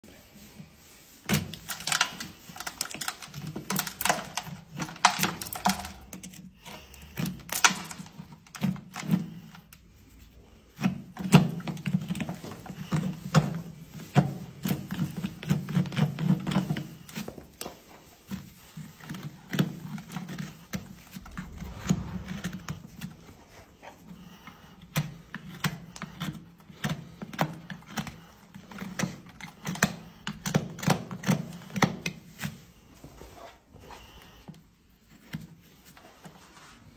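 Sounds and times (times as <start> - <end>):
hand tool scraping a hoof: 1.3 - 21.6, 22.4 - 36.9.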